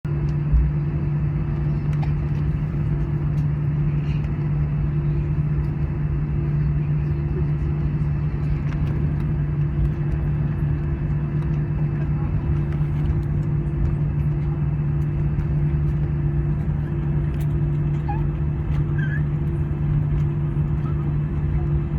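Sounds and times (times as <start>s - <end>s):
aircraft cabin hum: 0.1s - 21.9s.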